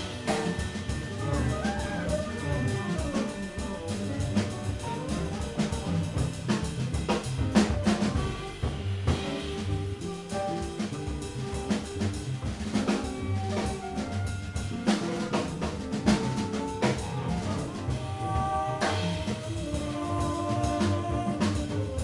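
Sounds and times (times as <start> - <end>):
busy drum kit: 0.0 - 22.0
jazz band playing: 0.0 - 22.0.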